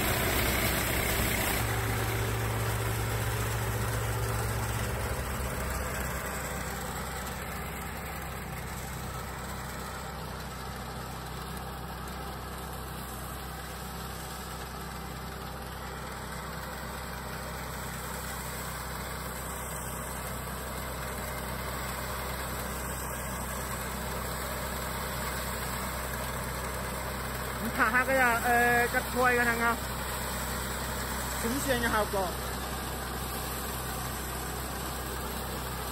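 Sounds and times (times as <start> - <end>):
harvester engine and threshing machinery: 0.0 - 35.9.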